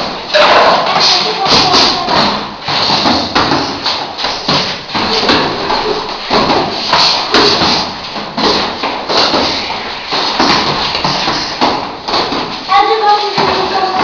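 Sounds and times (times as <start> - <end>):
footwork shuffling on floor: 0.0 - 14.0.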